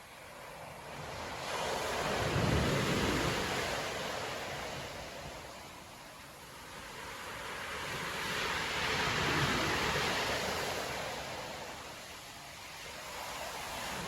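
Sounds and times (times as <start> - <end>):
storm wave breaking on beach: 0.7 - 5.8, 7.5 - 14.0.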